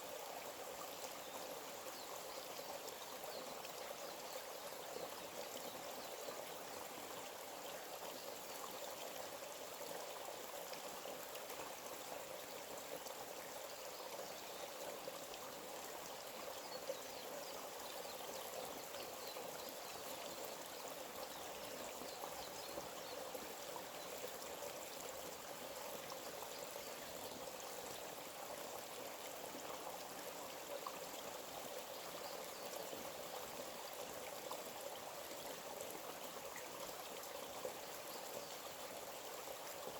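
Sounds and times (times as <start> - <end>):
forest stream babbling: 0.0 - 39.9.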